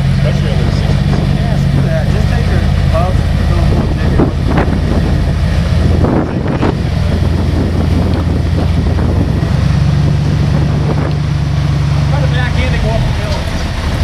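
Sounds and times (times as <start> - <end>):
engine running at low revs: 0.0 - 14.0
wind on microphone: 0.5 - 13.0.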